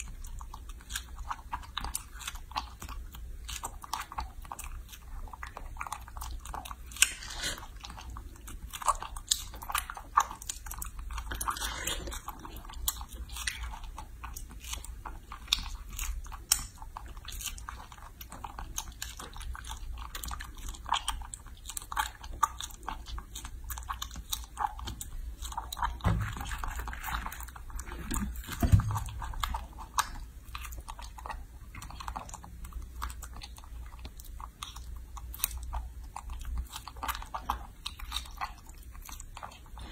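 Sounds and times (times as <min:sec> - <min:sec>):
monkey biting and chewing: 0:00.0 - 0:39.9.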